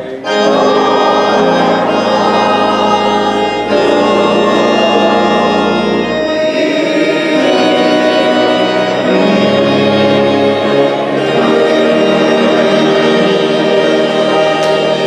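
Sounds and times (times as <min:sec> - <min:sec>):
organ playing hymn chords: 0:00.0 - 0:15.0.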